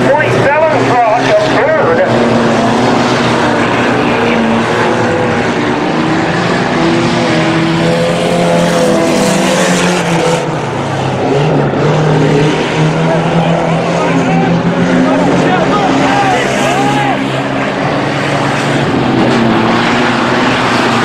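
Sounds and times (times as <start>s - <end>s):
truck engines racing: 0.0s - 21.0s.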